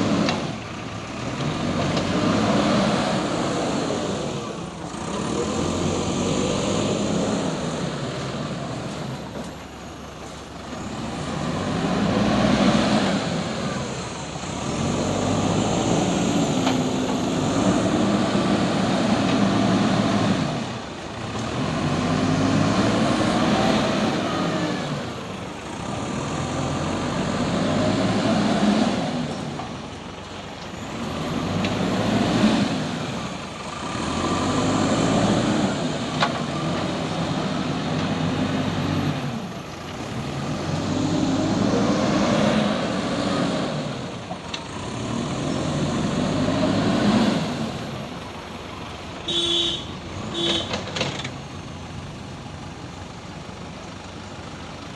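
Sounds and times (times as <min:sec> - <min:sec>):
backhoe diesel engine revving: 0:00.0 - 0:54.9.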